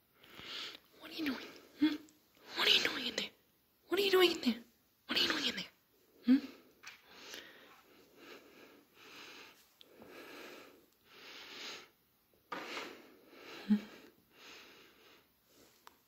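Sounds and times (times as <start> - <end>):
soft breathing: 0.1 - 3.1, 6.0 - 16.0.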